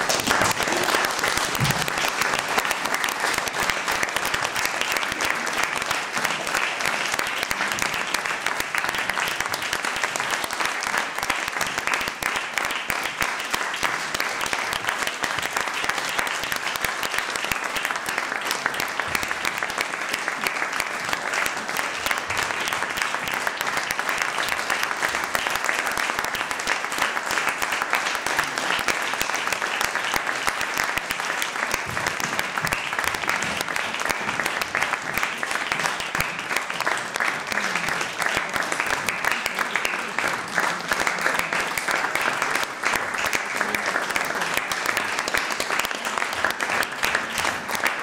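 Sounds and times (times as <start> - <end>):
audience applauding: 0.0 - 48.0.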